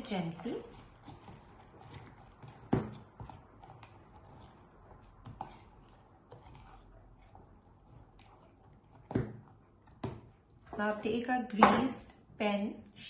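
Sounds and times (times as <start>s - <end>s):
spoon stirring batter in a bowl: 0.0s - 13.0s.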